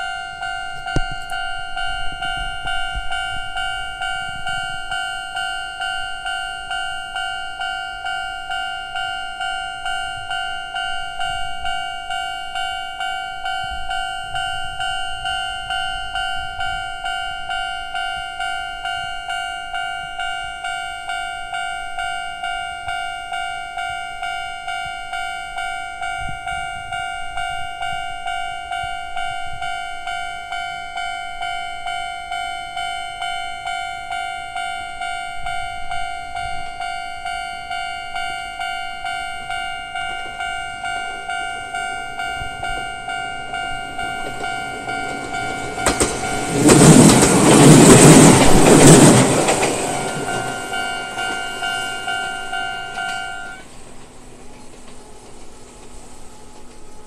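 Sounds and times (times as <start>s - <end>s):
railway crossing bell dinging: 0.0s - 57.0s
train passing on rails: 0.0s - 57.0s.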